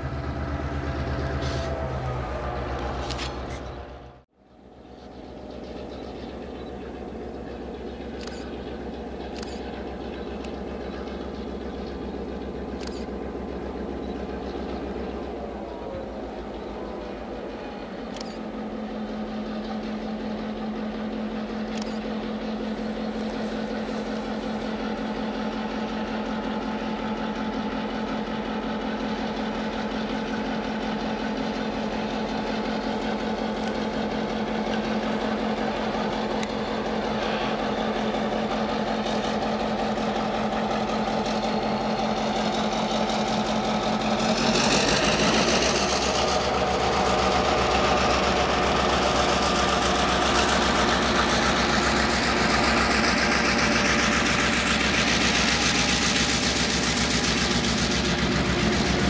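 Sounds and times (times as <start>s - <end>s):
diesel locomotive engine drone: 0.0s - 59.0s
freight cars rattling on rails: 0.0s - 59.0s.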